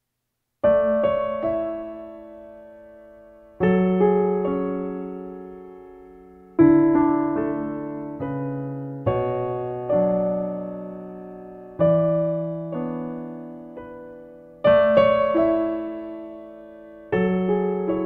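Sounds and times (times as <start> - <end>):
piano chords ringing: 0.6 - 18.0.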